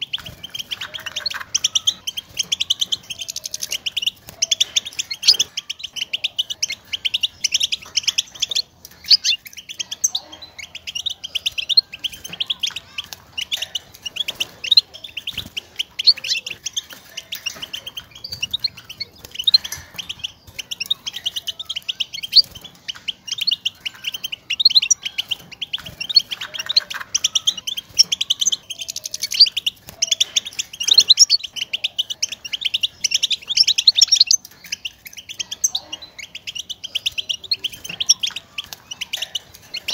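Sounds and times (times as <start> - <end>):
goldfinch twittering chirps: 0.0 - 39.9.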